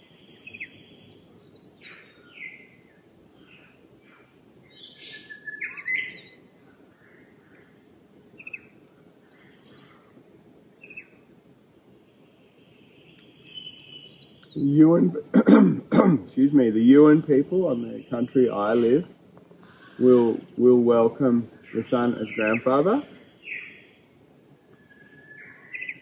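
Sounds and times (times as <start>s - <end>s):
birds chirping and whistling: 0.0s - 11.3s, 12.0s - 15.2s, 16.2s - 26.0s.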